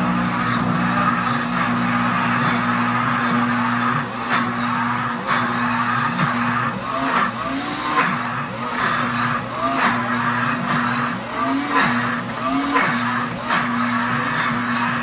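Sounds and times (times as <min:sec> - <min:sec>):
blender motor grinding nuts: 0:00.0 - 0:15.0.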